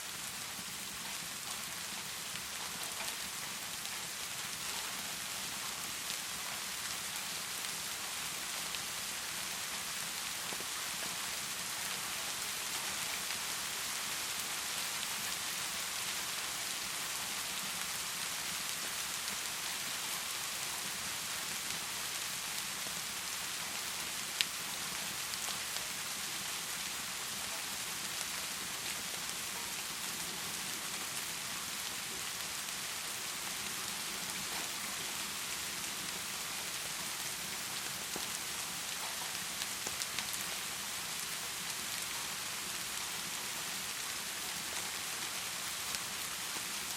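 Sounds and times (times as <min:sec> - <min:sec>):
heavy rain pouring: 0:00.1 - 0:46.9.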